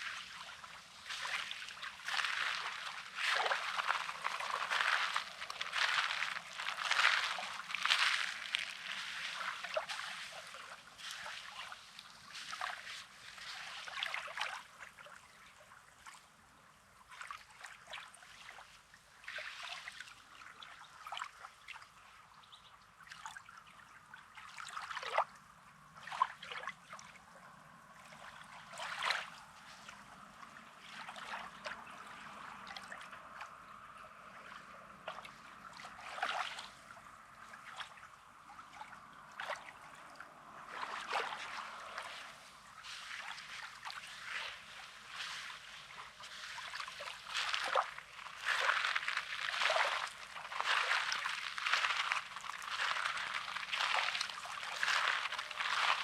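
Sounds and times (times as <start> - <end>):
small waves washing on shore: 0.0 - 22.2, 23.3 - 56.0.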